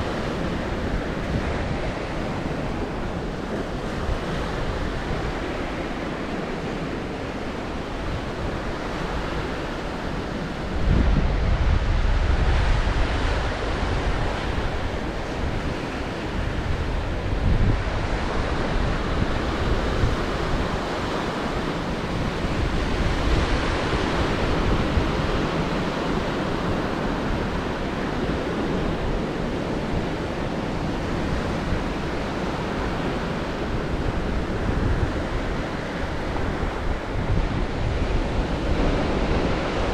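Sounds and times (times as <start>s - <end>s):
sea waves breaking on shore: 0.0s - 39.9s
wind buffeting microphone: 0.0s - 39.9s.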